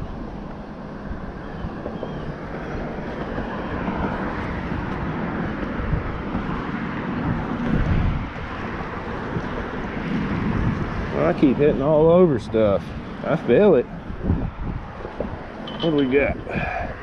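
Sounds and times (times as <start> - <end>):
highway traffic passing: 0.0 - 17.0
wind buffeting microphone: 0.0 - 17.0.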